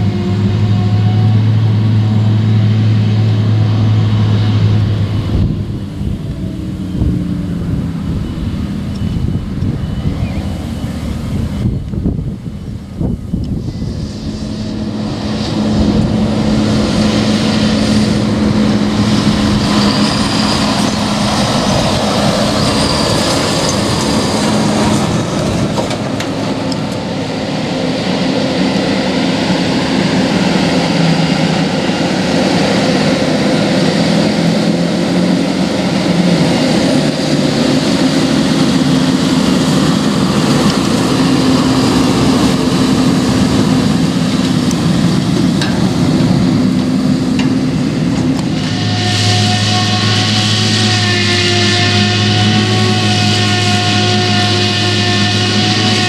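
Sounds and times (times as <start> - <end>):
tractor engine drone: 0.0 - 56.0
tyre and trailer noise: 0.0 - 56.0.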